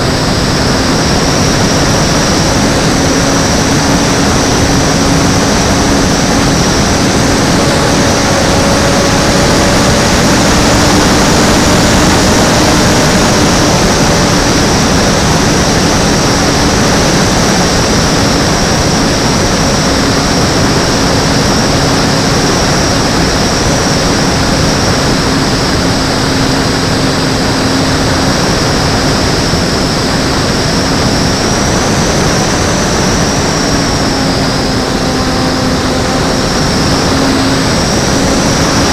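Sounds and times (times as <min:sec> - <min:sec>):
electric motor propeller whine: 0:00.0 - 0:38.9
heavy wind rush: 0:00.0 - 0:38.9.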